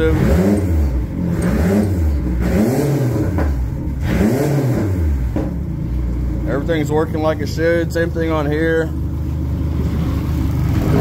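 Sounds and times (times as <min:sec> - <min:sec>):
outboard engine revving: 0:00.0 - 0:05.8, 0:06.4 - 0:11.0.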